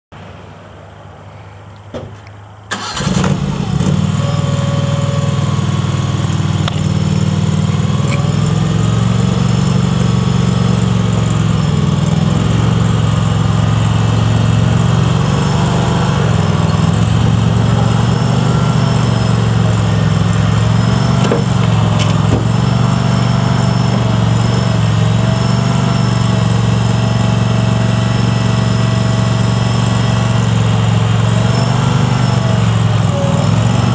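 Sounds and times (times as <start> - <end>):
loader engine starting and running: 1.8 - 33.9.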